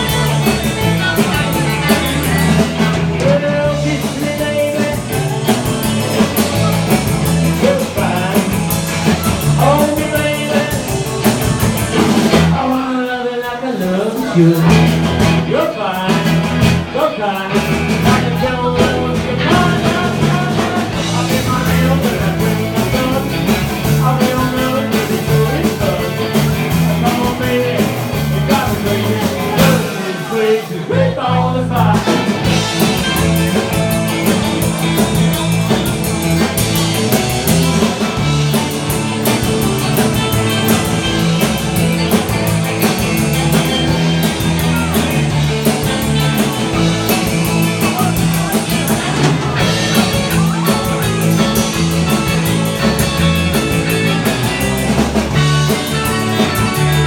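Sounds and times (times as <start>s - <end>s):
steady drum beat: 0.0s - 12.9s, 14.2s - 57.0s
bass guitar: 0.0s - 57.0s
electric guitar: 0.0s - 57.0s.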